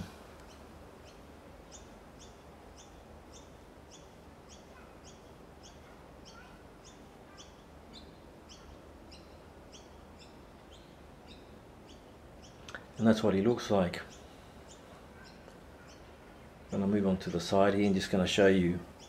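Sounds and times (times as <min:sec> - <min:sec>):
low steady hiss: 0:00.0 - 0:19.0
small bird chirping: 0:00.0 - 0:19.0.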